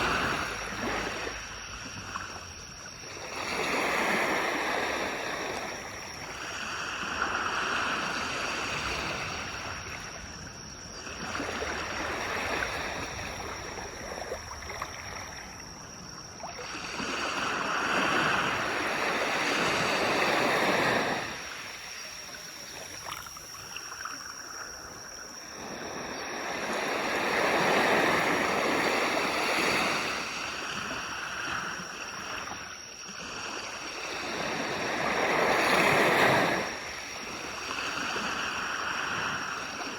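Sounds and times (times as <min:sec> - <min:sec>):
waves washing on a beach: 0:00.0 - 0:39.9.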